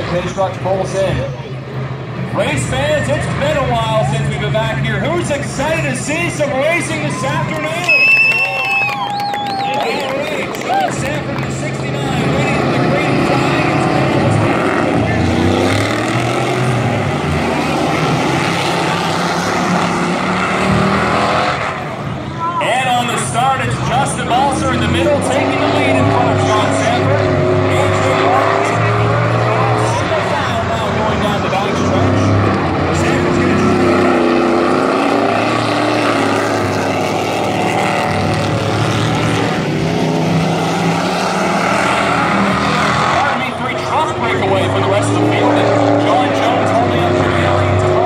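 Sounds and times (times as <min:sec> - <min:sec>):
racing truck engines droning: 0:00.0 - 0:48.0.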